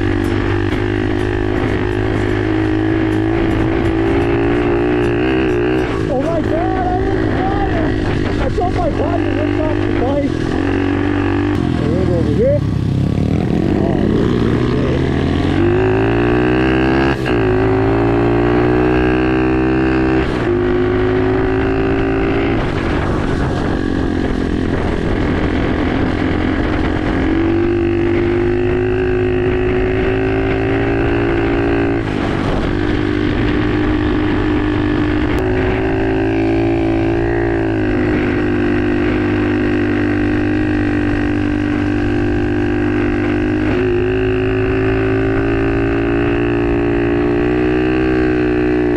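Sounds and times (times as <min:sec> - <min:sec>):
pit bike engine accelerating: 0:00.0 - 0:48.9.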